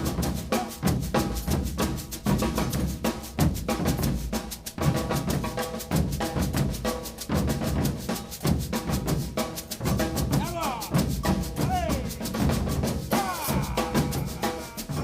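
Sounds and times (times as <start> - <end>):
percussion ensemble drumming: 0.0 - 15.0.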